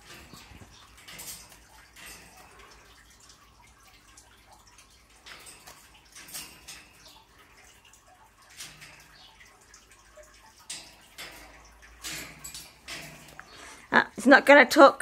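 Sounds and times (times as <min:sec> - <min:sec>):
small splashes: 0:00.0 - 0:14.6
fish tank water trickling: 0:00.0 - 0:15.0.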